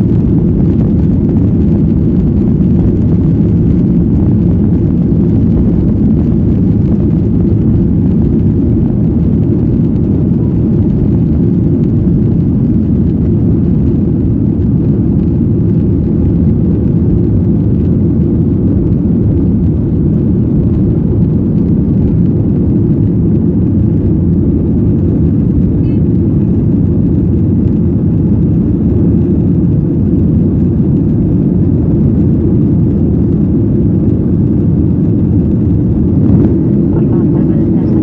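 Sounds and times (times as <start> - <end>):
jet engine cabin rumble: 0.0 - 38.0.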